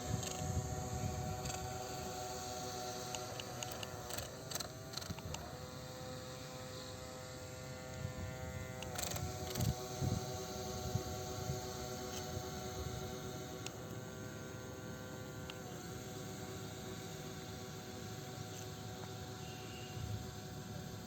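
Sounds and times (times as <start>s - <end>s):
electric motors whining: 0.0s - 21.0s.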